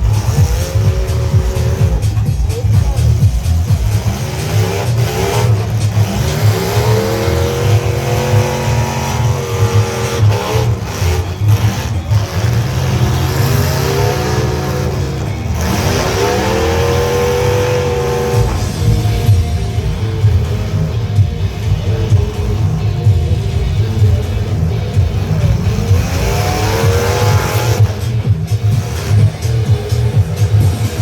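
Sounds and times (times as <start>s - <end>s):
truck engines revving hard: 0.0s - 31.0s.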